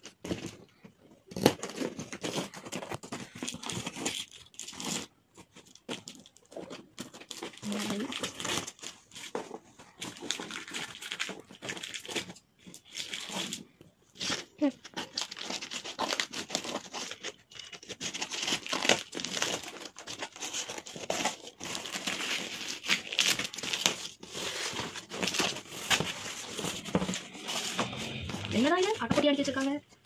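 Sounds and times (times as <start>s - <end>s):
cardboard crinkling: 0.0s - 30.0s
tape tearing: 1.3s - 13.6s, 14.2s - 29.4s.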